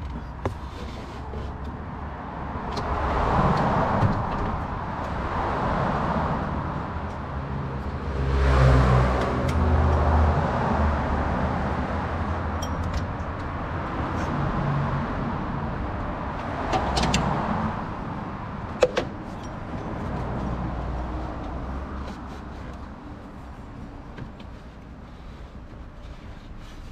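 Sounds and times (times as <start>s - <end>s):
vehicle engine rumble: 0.0s - 26.9s.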